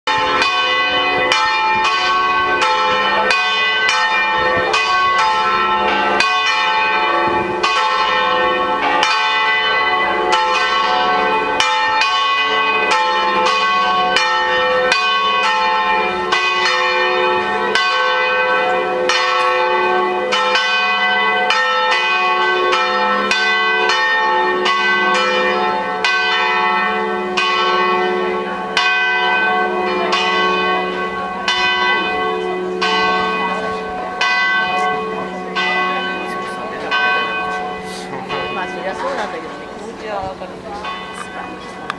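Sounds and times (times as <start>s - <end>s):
church bell ringing: 0.1s - 41.9s.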